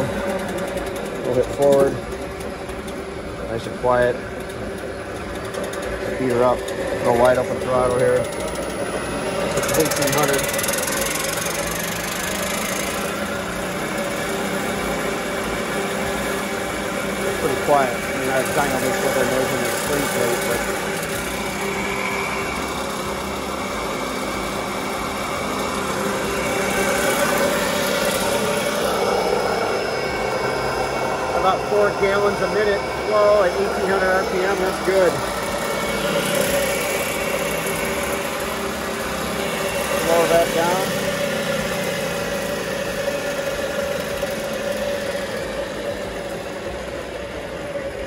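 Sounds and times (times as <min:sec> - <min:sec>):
machine hum: 0:00.0 - 0:48.0.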